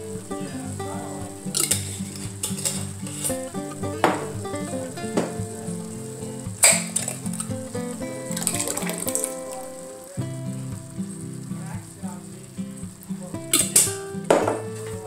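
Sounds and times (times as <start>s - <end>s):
background music: 0.0s - 15.0s
sharp crackles: 0.0s - 15.0s
vegetables sizzling in a pot: 0.0s - 15.0s.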